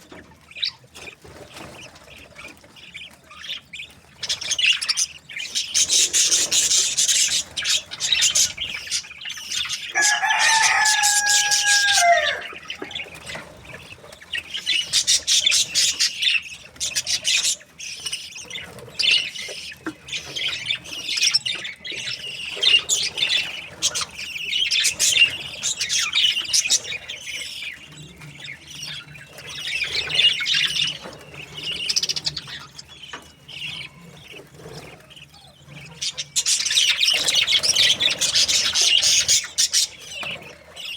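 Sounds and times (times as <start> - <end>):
budgerigars chattering and chirping: 0.0 - 40.9
long steady bird call: 0.0 - 40.9.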